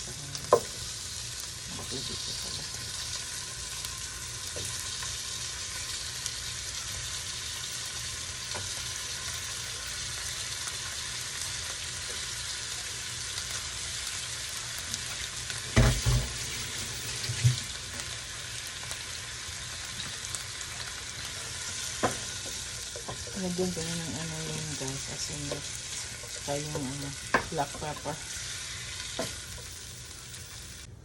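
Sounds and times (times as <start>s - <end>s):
chicken sizzling in hot oil: 0.0s - 30.9s.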